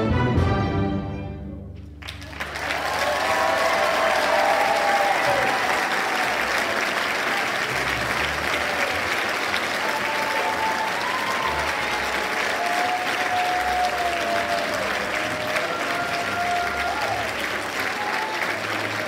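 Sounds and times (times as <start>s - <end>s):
audience applauding: 2.0s - 19.0s.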